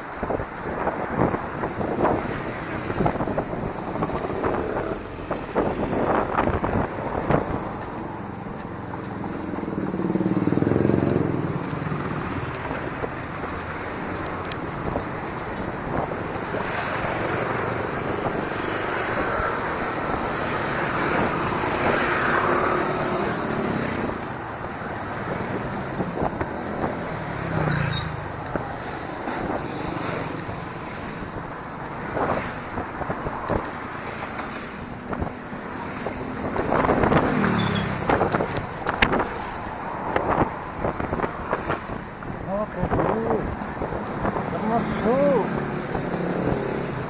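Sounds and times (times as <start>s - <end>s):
vehicles passing: 0.0s - 47.0s
wind on microphone: 0.0s - 47.0s.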